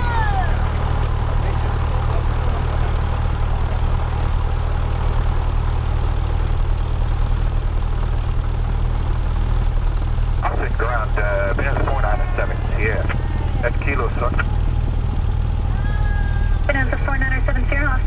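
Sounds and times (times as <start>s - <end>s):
airplane engine idling: 0.0s - 18.0s.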